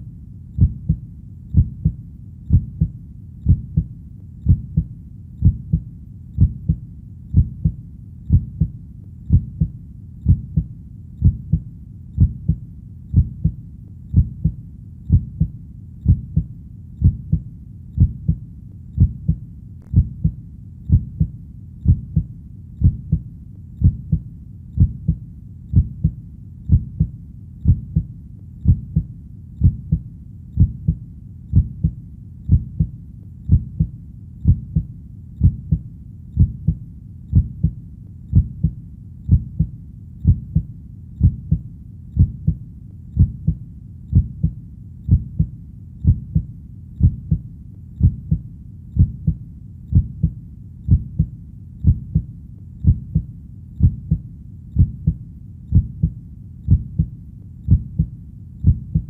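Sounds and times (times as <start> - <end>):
faint low rumble: 0.0 - 59.0
heartbeat thumps: 0.6 - 59.0.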